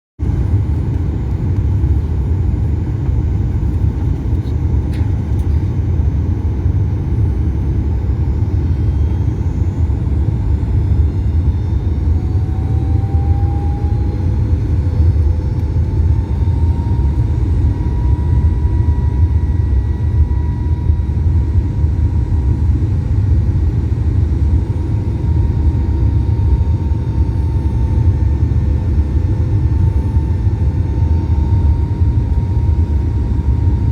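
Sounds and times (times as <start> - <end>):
airplane engine and airflow rumble: 0.2 - 33.9.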